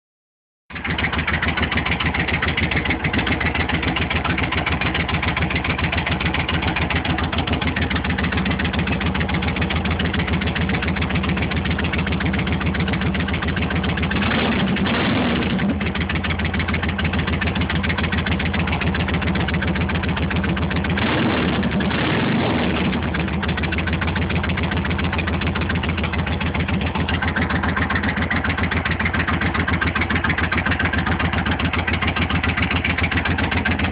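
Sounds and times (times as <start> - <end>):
motorcycle engine idling loud: 0.7 - 33.9.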